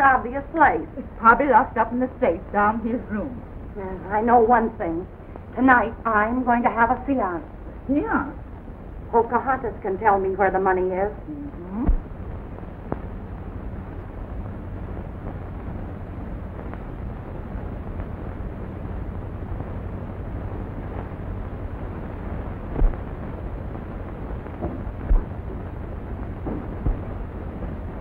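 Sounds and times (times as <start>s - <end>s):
film soundtrack hiss and rumble: 0.0s - 28.0s.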